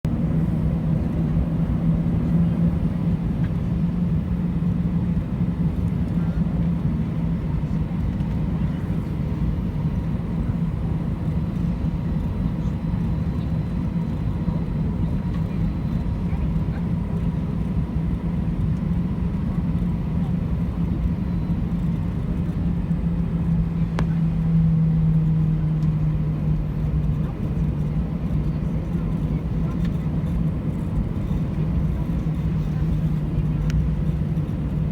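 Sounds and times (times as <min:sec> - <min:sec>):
aircraft low rumble: 0:00.1 - 0:34.9
airliner cabin engine drone: 0:00.1 - 0:34.9.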